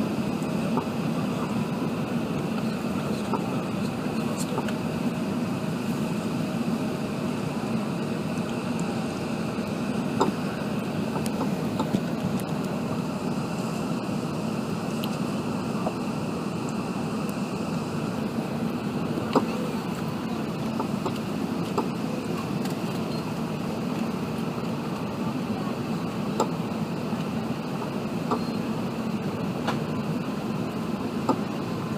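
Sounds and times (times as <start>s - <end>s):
airliner cabin noise: 0.0s - 31.9s.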